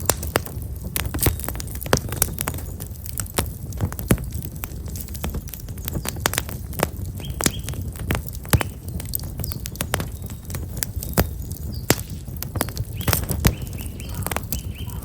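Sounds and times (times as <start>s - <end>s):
small birds chirping: 0.0s - 3.3s, 4.0s - 15.0s
fire crackling and popping: 0.0s - 15.0s.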